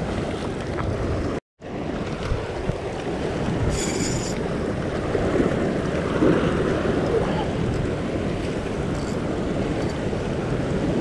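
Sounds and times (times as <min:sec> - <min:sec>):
sea swell washing against rock: 0:00.0 - 0:11.0
wind buffeting microphone: 0:00.0 - 0:11.0.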